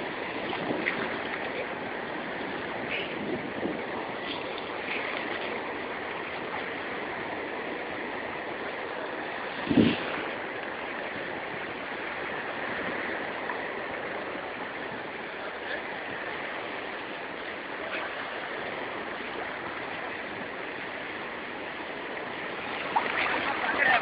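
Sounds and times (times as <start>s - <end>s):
sea waves washing: 0.0s - 24.0s.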